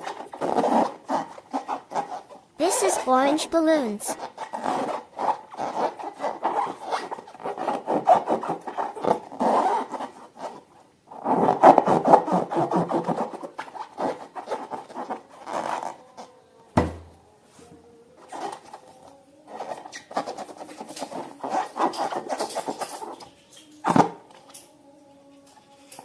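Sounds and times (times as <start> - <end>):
slime balloons rubbing and squishing: 0.0 - 16.3, 18.2 - 24.7.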